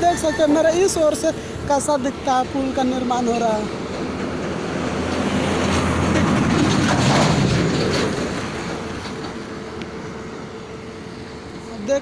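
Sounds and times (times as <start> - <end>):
heavy vehicle passing: 0.0 - 12.0.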